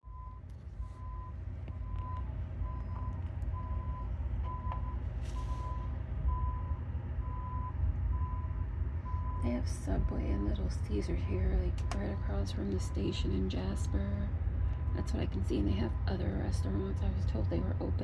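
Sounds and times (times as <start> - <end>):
vehicle reversing alarm beeping: 0.0 - 17.2.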